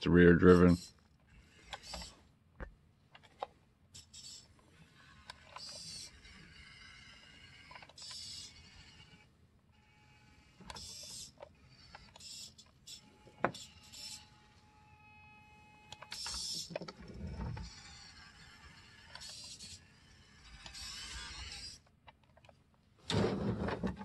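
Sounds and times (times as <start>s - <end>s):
plastic toy scraping and rattling: 0.4s - 2.3s, 3.1s - 9.3s, 10.2s - 14.5s, 15.9s - 24.0s.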